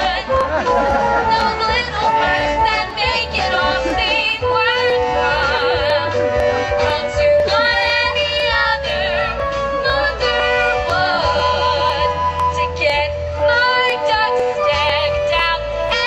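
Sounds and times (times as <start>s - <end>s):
girls singing together: 0.0s - 16.0s
instrumental accompaniment: 0.0s - 16.0s.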